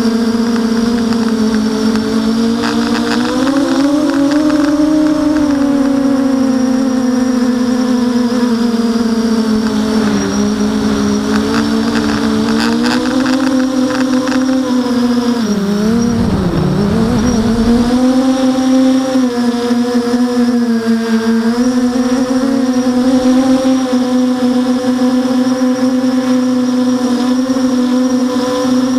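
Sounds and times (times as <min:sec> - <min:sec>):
drone motors whining: 0:00.0 - 0:28.9.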